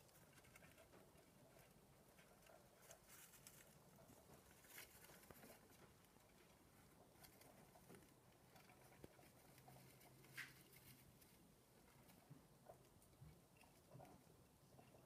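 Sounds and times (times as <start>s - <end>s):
mice scratching in bedding: 0.0s - 15.0s.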